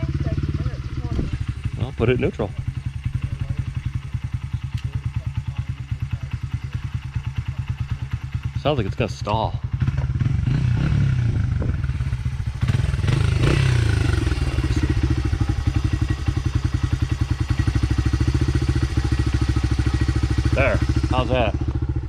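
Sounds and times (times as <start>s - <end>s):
dirt bike engine idling and revving: 0.0s - 22.0s.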